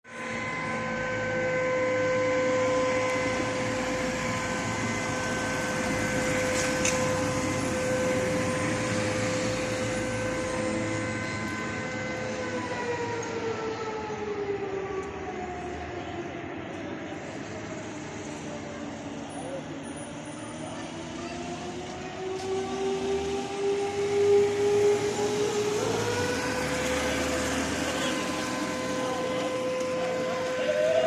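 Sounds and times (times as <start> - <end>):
warning siren winding down: 0.0 - 31.0.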